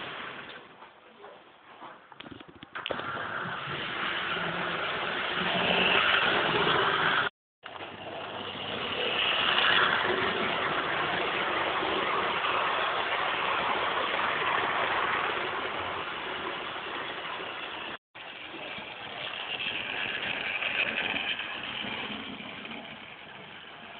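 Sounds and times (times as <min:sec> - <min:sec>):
model train motor whirring: 0:02.8 - 0:23.9
wheels rumbling on track: 0:03.0 - 0:23.9.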